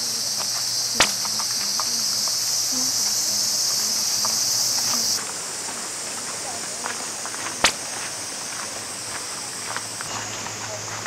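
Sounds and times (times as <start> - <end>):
cicada chorus drone: 0.0 - 11.0.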